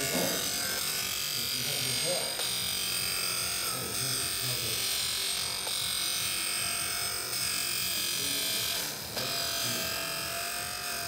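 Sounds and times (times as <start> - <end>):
electric motor whirring: 0.0 - 11.0.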